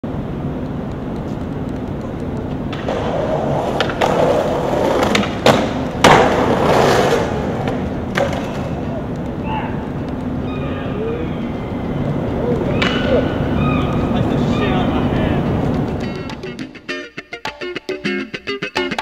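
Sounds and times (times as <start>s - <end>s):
skateboard wheels rolling on concrete: 0.0s - 19.0s
skateboard clacks: 0.3s - 10.4s, 11.5s - 19.0s.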